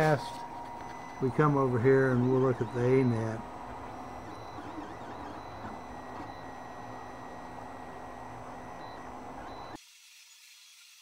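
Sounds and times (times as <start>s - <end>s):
printer fan and motor noise: 0.0s - 9.8s
thin whining tones: 0.0s - 9.8s.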